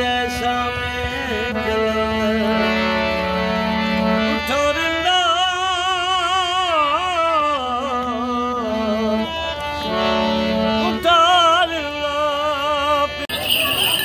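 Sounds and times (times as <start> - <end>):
man singing with wavering voice: 0.0 - 3.2, 4.2 - 9.3, 10.8 - 14.0
harmonium: 0.0 - 14.0.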